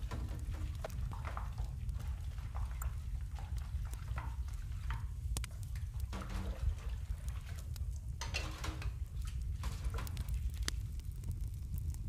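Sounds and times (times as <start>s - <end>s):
wood fire rumbling and crackling: 0.0s - 12.0s.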